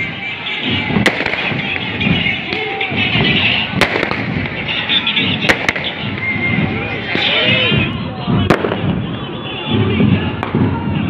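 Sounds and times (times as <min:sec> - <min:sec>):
gunfire bangs: 0:00.0 - 0:09.2
crowd voices: 0:00.0 - 0:11.0.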